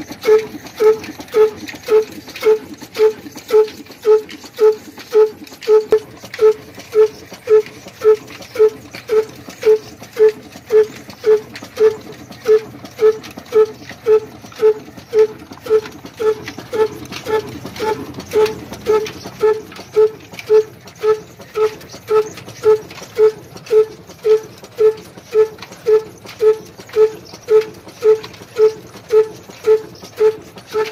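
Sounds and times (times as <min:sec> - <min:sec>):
diesel engine exhaust beat: 0:00.0 - 0:30.9.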